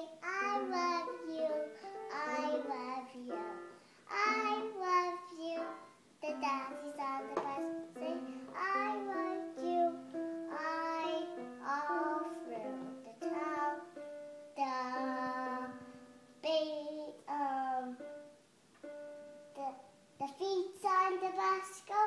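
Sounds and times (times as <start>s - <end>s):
child singing: 0.0s - 18.2s, 19.6s - 22.0s.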